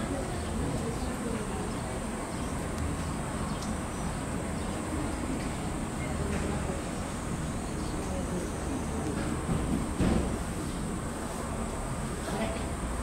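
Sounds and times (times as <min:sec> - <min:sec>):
people chattering: 0:00.0 - 0:13.0.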